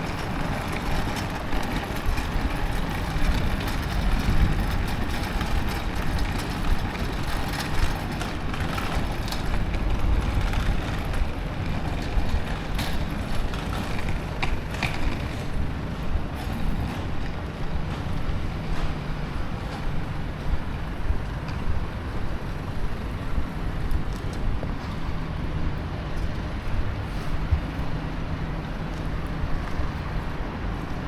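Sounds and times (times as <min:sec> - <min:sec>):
traffic noise: 0:00.0 - 0:31.0.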